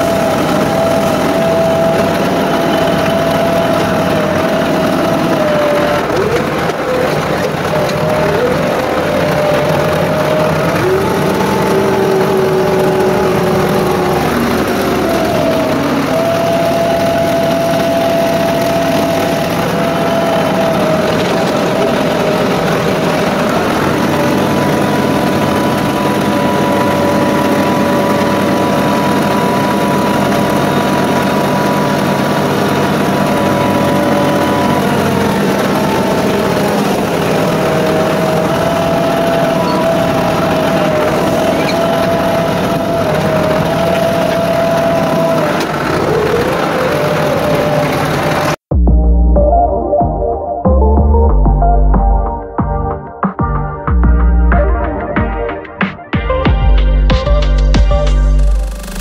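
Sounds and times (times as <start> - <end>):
tractor diesel engine running: 0.0 - 50.0, 56.4 - 59.0.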